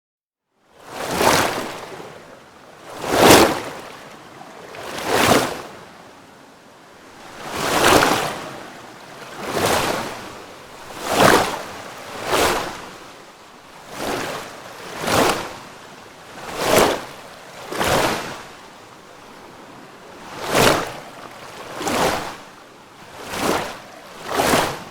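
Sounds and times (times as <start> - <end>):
water rushing in surges: 0.8 - 24.9.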